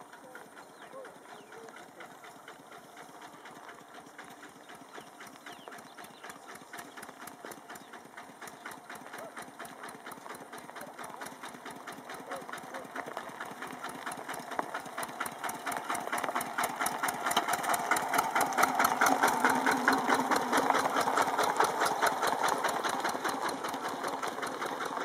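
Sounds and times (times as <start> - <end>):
diesel tractor engine chugging: 0.0 - 25.0.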